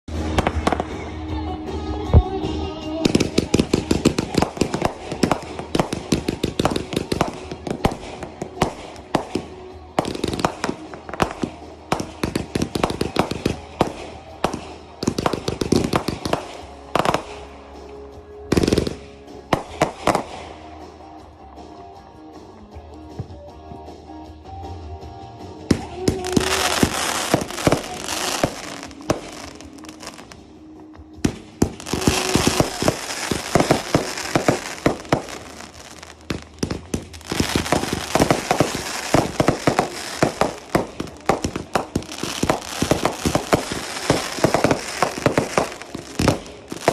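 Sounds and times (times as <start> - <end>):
background music: 0.0 - 46.9
fireworks bangs and crackles: 0.1 - 22.0, 25.4 - 46.9.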